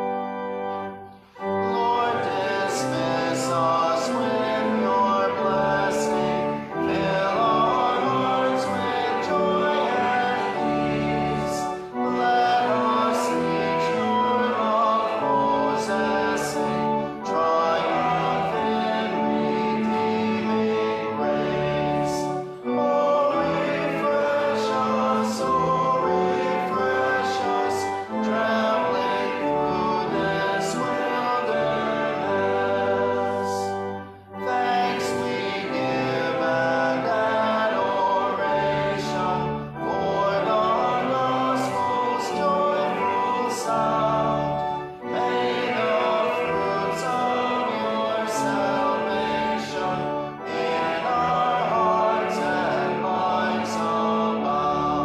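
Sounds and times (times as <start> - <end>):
congregation singing a hymn: 0.0 - 55.0
instrumental accompaniment: 0.0 - 55.0.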